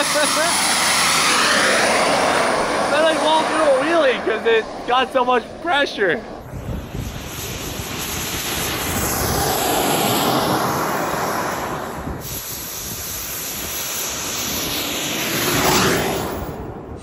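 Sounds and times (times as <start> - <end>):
jet turbine engine whine: 0.0 - 17.0.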